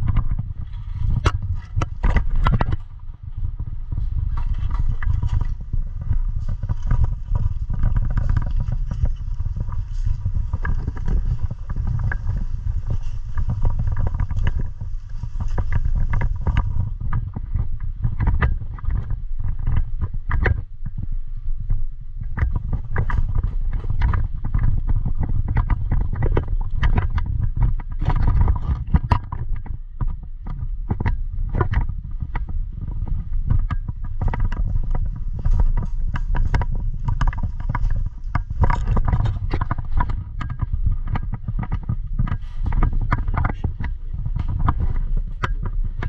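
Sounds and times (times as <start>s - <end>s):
gear rustling and clattering: 0.0s - 46.0s
low rumble of handling and wind: 0.0s - 46.0s.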